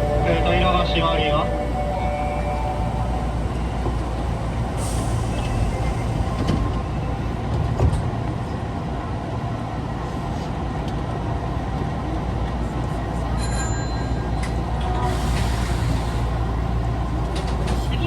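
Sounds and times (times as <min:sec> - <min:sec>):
subway car low rumble: 0:00.0 - 0:18.0.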